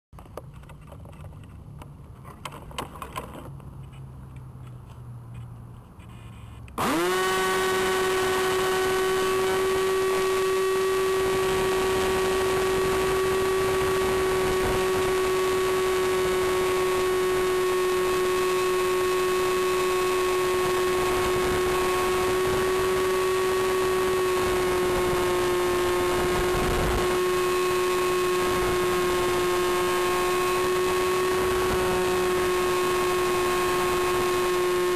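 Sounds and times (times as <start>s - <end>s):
electric motor and propeller whine: 6.7s - 34.9s.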